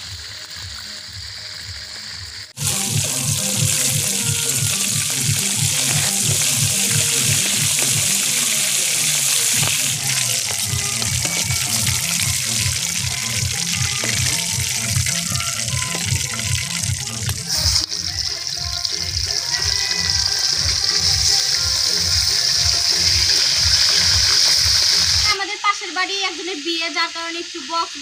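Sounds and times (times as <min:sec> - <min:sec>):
chicken deep-frying in oil: 0:00.0 - 0:28.0
music with bass beat: 0:00.1 - 0:25.3.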